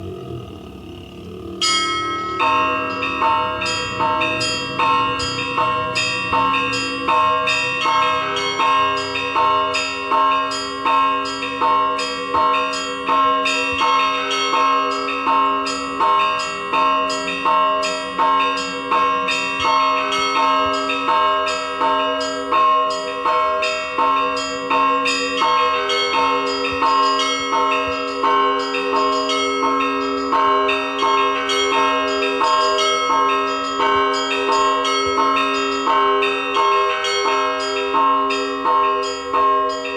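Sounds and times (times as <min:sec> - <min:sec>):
large bells humming: 0:00.0 - 0:39.9
small church bells ringing: 0:00.0 - 0:39.9.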